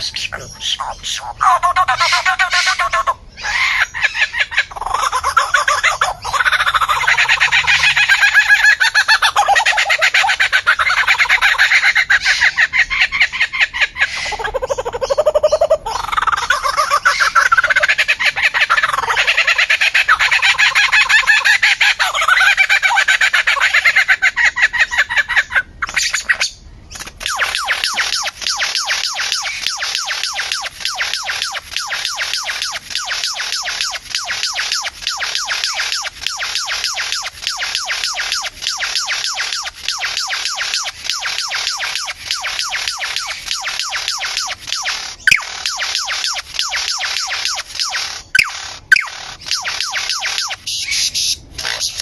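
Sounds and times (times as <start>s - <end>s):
bird chattering calls: 0.0s - 52.0s.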